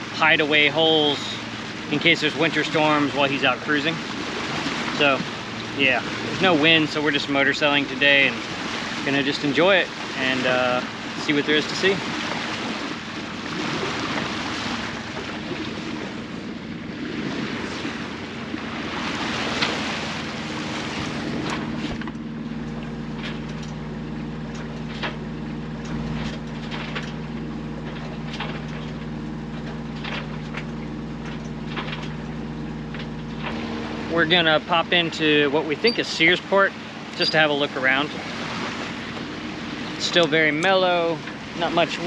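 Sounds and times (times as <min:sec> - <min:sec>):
boat engine running: 0:00.0 - 0:42.0
wind and water noise: 0:00.0 - 0:42.0.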